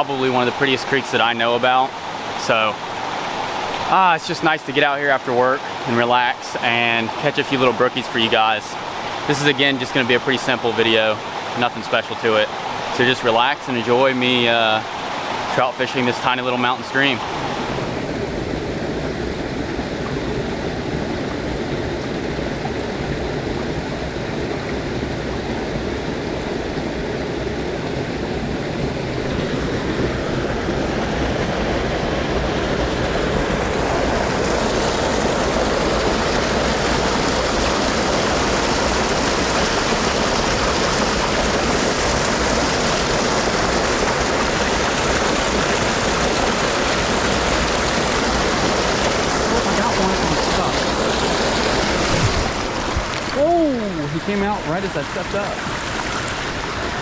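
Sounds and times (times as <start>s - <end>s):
creek water rushing and splashing: 0.0s - 57.0s.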